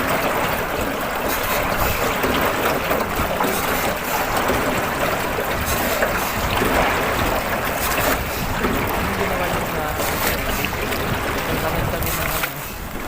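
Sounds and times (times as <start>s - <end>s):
rushing water from moving boat: 0.0s - 13.0s.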